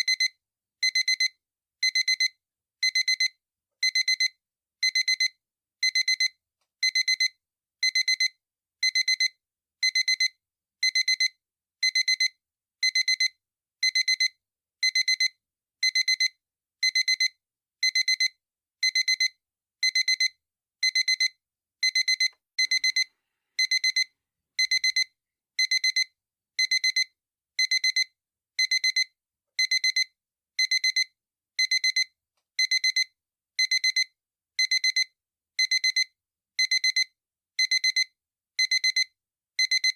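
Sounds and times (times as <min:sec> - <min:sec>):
alarm clock beeping: 0:00.0 - 0:39.9.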